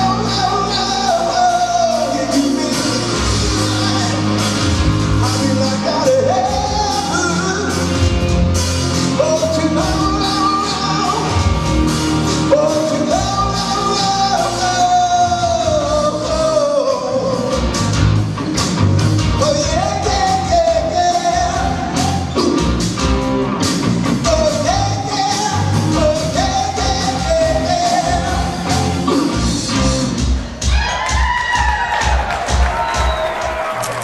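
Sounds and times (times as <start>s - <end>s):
melodic lead line: 0.0s - 30.6s
live rock band playing: 0.0s - 34.0s
drums beating: 2.6s - 34.0s.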